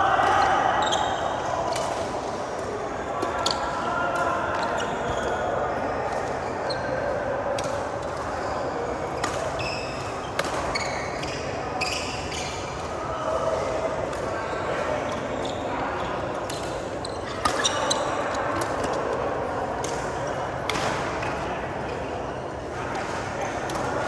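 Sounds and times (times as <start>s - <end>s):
chattering voices: 0.0s - 24.0s.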